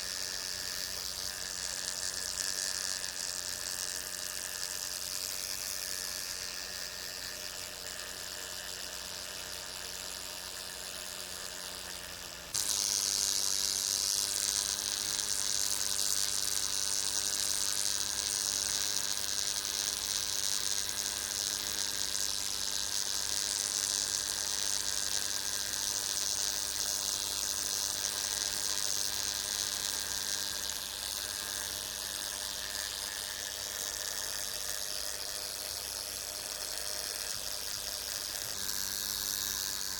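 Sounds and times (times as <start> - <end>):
insect wings buzzing: 0.0 - 39.9.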